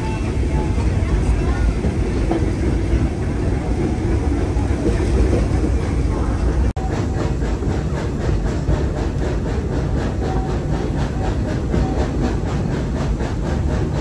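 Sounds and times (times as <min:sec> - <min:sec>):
steam train chugging: 0:00.0 - 0:14.0.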